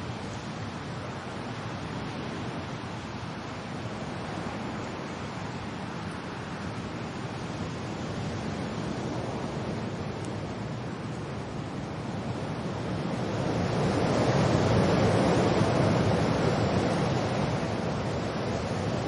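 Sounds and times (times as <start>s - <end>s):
wind and rain rushing: 0.0s - 19.0s.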